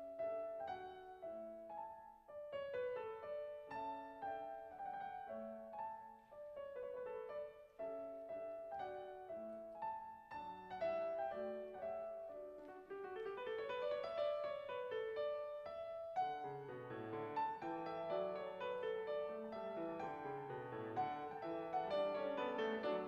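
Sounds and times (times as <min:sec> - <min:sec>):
classical piano duet: 0:00.0 - 0:23.0.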